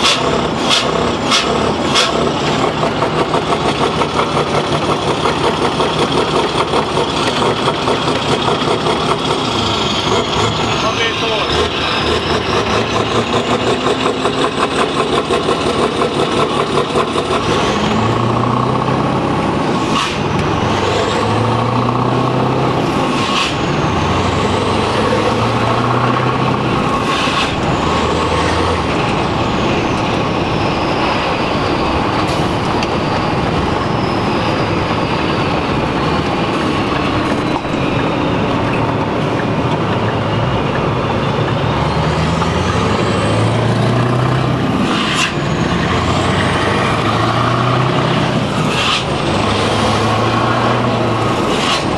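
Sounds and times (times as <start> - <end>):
rush of noise at gear change: 0.0 - 51.9
truck engine accelerating: 0.0 - 51.9.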